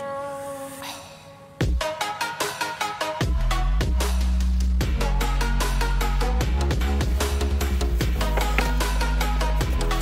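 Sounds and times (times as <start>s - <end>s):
song with drum beat and heavy bass: 1.6s - 10.0s.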